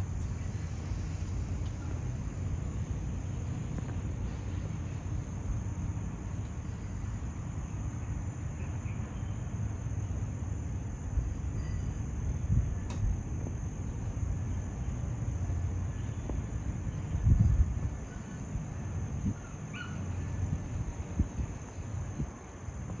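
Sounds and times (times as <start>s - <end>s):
insects chirring: 0.0s - 23.0s
low wind rumble: 0.0s - 23.0s.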